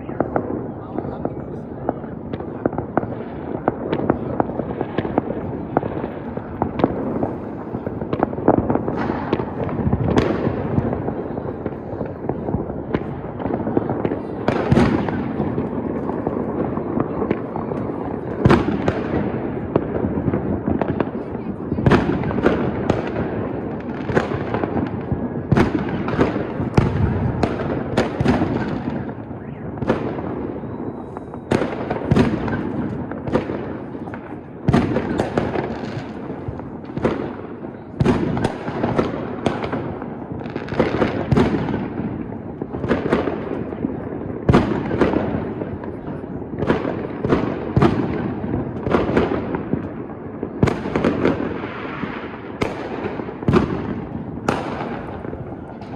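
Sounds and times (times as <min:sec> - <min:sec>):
fireworks bursting bangs: 0:00.0 - 0:55.9.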